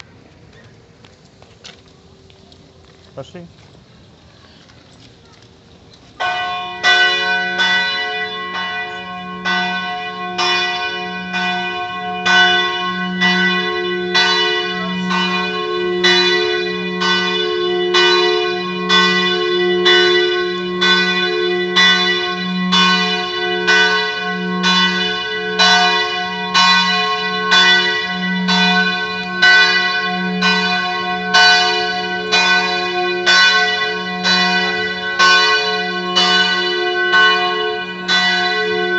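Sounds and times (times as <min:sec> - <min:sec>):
church bell ringing: 0:06.2 - 0:38.9.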